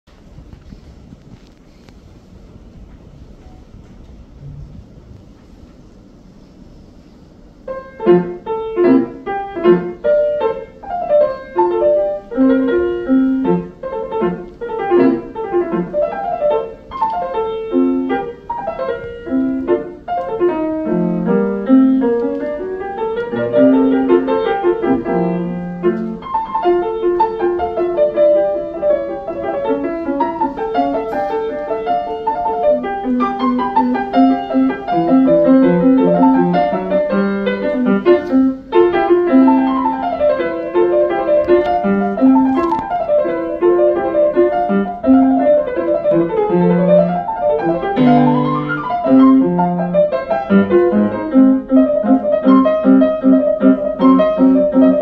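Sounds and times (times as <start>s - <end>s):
solo classical piano: 0.0s - 55.0s.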